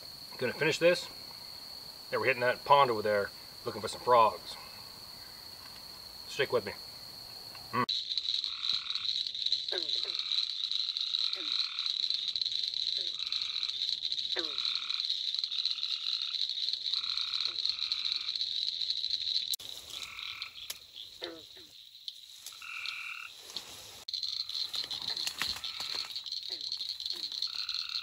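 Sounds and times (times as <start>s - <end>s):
frogs calling: 0.0s - 28.0s
high-pitched frog chorus: 0.0s - 28.0s.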